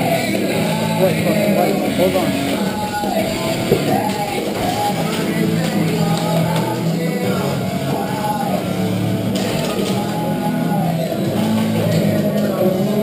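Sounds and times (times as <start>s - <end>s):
loud rock music with singing: 0.0s - 13.0s.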